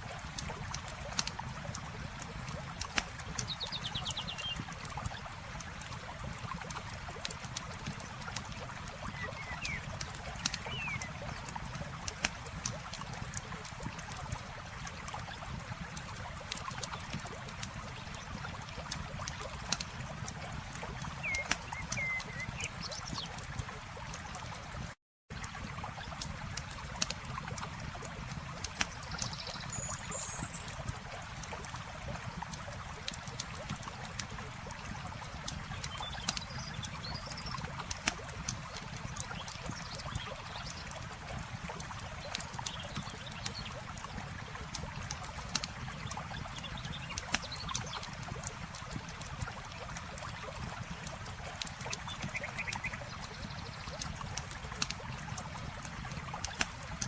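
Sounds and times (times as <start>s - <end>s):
running water: 0.0s - 57.0s
campfire crackling and popping: 0.1s - 24.9s, 26.1s - 29.9s, 30.6s - 57.0s.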